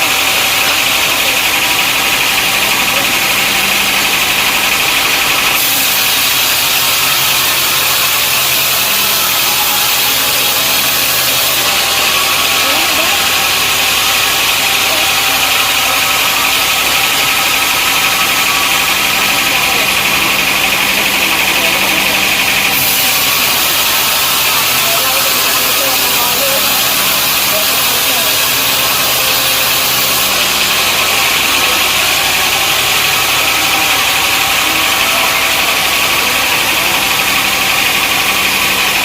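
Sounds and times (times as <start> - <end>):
sawmill engine drone: 0.0 - 39.0
sawmill machinery hiss: 0.0 - 39.0.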